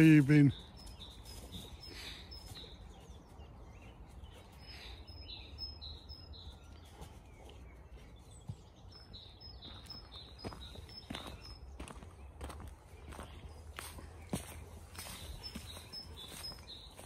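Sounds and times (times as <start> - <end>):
small bird singing: 0.0 - 17.0.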